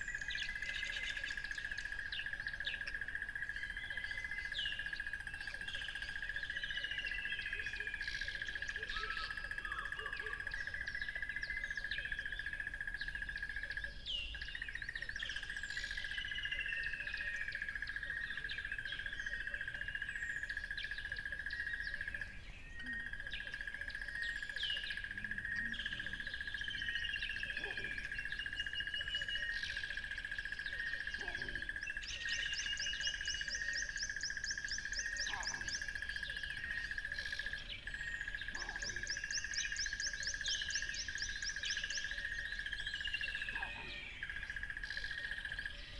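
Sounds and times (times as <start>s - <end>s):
songbirds chirping and trilling: 0.0s - 45.9s.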